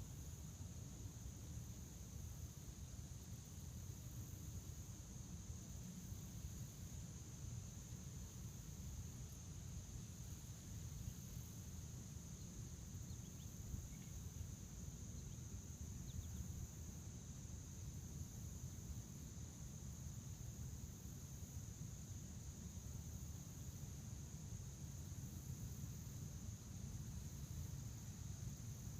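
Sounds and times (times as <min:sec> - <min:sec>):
crickets trilling: 0:00.0 - 0:28.9.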